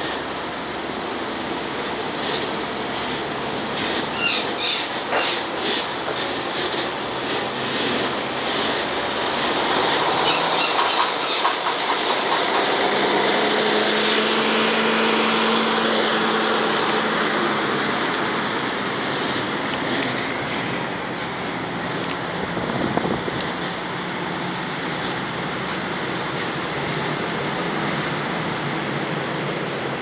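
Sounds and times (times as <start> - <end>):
outdoor noise: 0.0 - 30.0.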